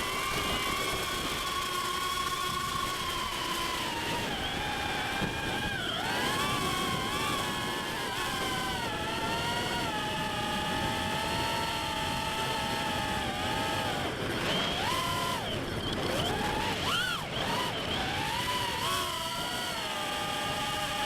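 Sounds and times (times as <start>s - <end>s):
drone motors whining: 0.0s - 21.0s
rough wind noise: 0.0s - 21.0s.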